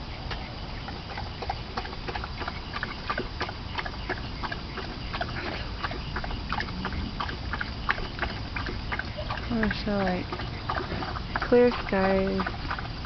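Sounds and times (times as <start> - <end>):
dog lapping water: 0.0 - 13.0.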